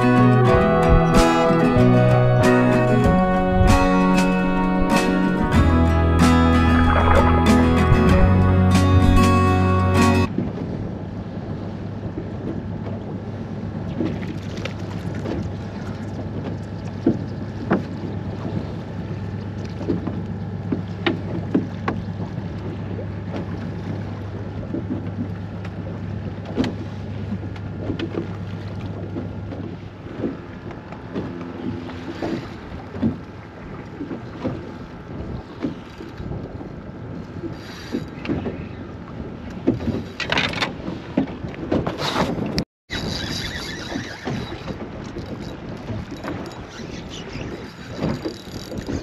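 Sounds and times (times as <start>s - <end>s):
boat motor humming: 0.0s - 49.0s.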